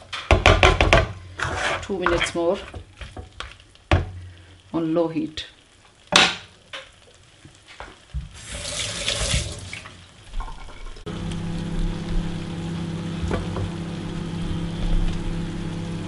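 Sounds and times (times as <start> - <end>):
curry sizzling in a pan: 0.0 - 16.0.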